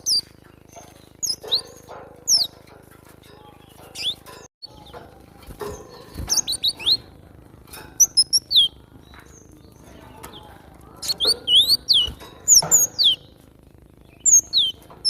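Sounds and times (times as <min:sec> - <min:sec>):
bird chirping: 0:00.0 - 0:07.2, 0:07.8 - 0:15.0.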